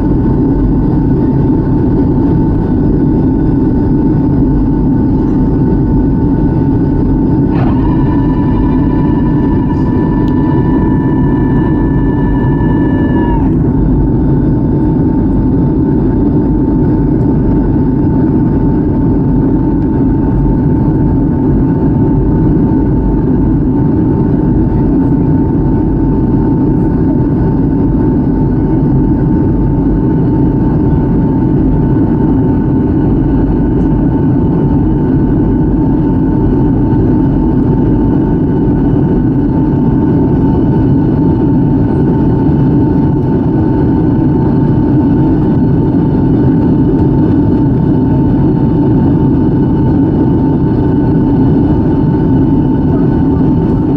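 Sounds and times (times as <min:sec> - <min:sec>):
high whine: 0:00.0 - 0:53.9
jet engines rumbling: 0:00.0 - 0:53.9.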